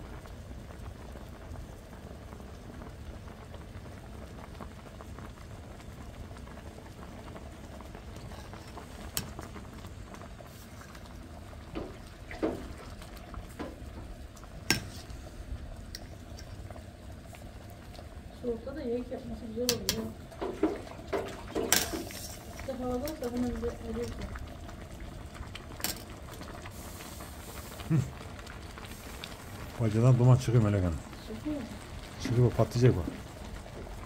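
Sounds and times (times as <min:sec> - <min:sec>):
pot boiling and bubbling: 0:00.0 - 0:34.0.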